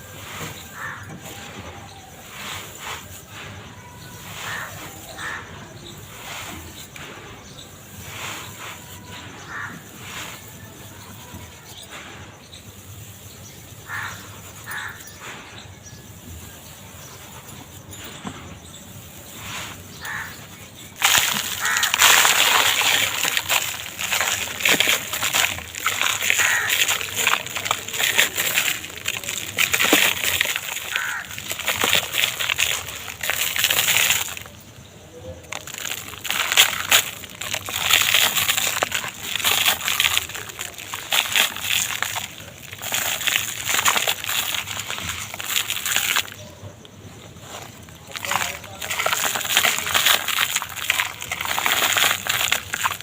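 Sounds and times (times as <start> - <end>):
brittle material crushed by hand: 0.0 - 11.9, 19.4 - 46.6, 47.4 - 53.0.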